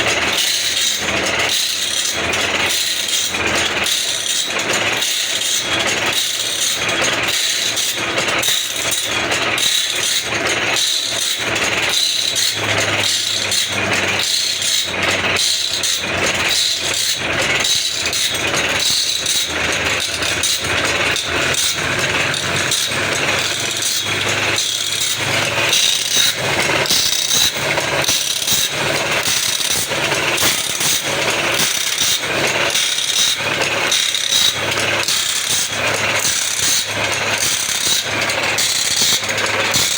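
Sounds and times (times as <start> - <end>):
grinding wheel hissing: 0.0 - 39.9
rhythmic feed mechanism clatter: 0.0 - 39.9.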